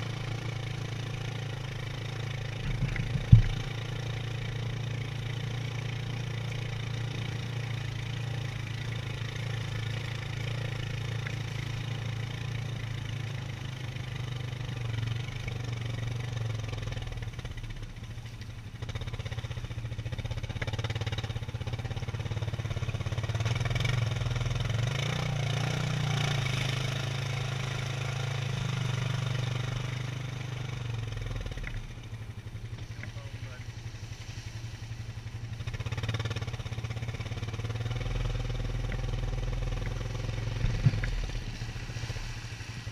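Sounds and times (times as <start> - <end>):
atv engine droning: 0.0 - 42.9.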